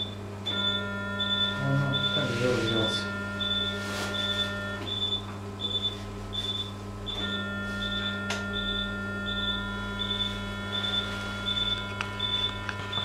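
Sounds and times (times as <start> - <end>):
electrical hum: 0.0 - 13.0
medical monitor beeping: 0.0 - 13.0
thin steady whine: 0.0 - 13.0.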